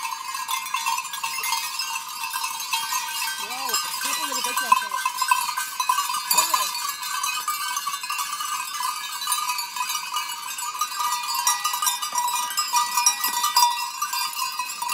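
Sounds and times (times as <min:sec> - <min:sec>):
goat bells jingling and clanking: 0:00.0 - 0:14.9.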